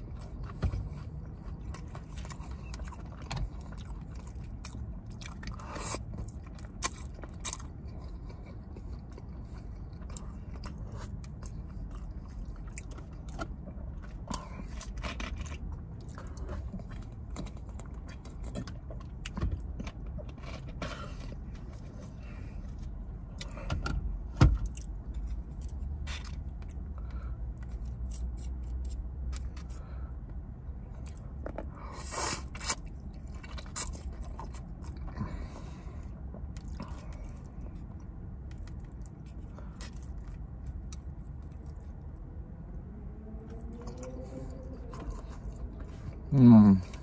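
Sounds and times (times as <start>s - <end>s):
chewing and biting: 0.0s - 23.6s, 24.6s - 29.8s, 30.9s - 42.3s, 43.0s - 46.2s
low steady hum: 0.0s - 47.0s.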